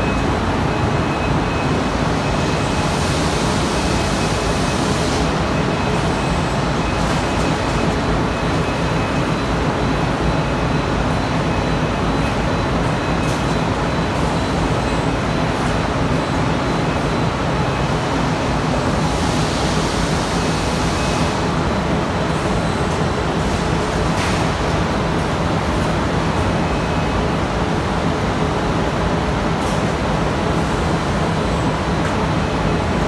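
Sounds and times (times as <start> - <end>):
industrial machine line running: 0.0 - 33.0.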